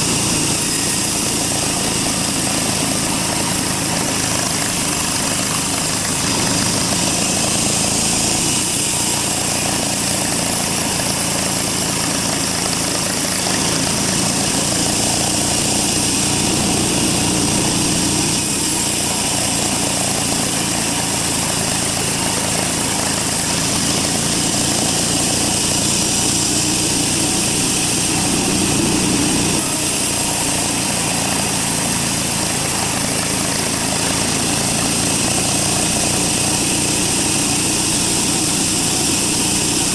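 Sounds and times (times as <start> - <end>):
bandsaw running with hiss: 0.0 - 39.9.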